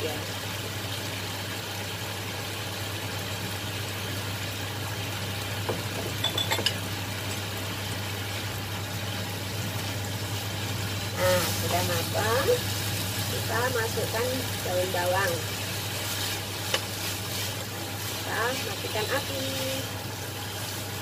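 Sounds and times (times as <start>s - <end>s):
sauce simmering in a pan: 0.2s - 21.0s.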